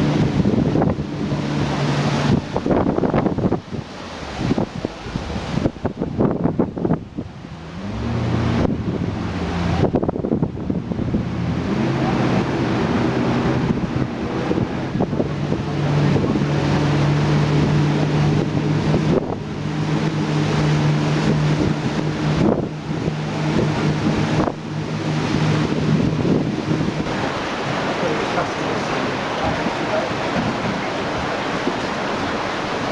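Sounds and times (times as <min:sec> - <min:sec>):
boat engine humming: 0:00.0 - 0:32.9
wind buffeting microphone: 0:00.0 - 0:32.9.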